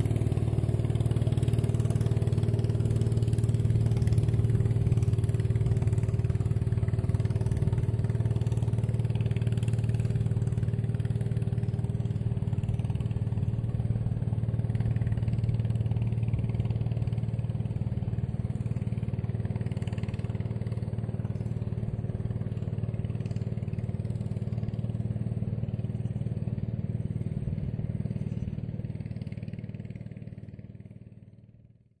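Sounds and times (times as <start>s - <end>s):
low engine hum: 0.0s - 32.0s.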